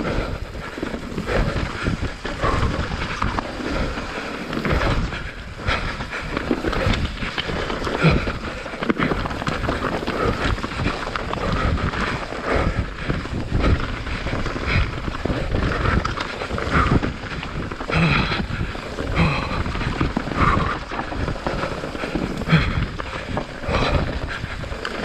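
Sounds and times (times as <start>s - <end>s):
mountain bike rattling over rock: 0.0s - 25.0s
wind buffeting microphone: 0.0s - 25.0s.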